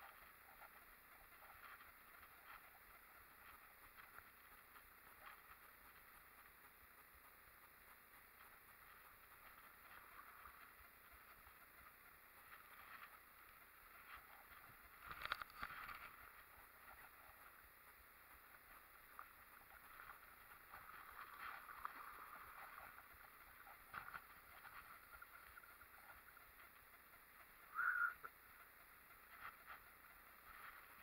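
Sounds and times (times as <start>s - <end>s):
river water lapping and gurgling: 0.0s - 31.0s.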